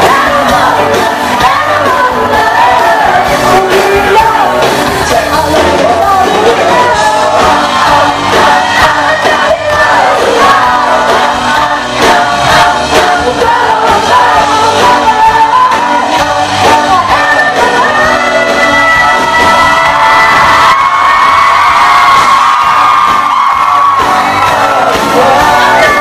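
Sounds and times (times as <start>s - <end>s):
female and male voices singing: 0.0s - 21.2s, 23.2s - 26.0s
live pop-rock band: 0.0s - 26.0s.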